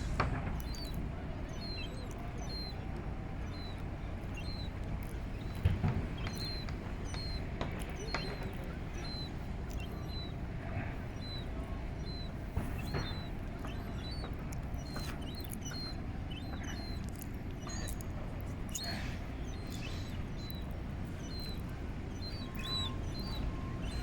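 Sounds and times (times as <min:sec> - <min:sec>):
bird peeping: 0:00.0 - 0:24.0
low background rumble: 0:00.0 - 0:24.0.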